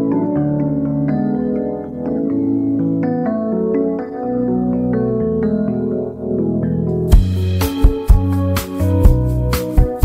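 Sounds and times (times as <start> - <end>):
gentle melody over held chords: 0.0 - 10.0.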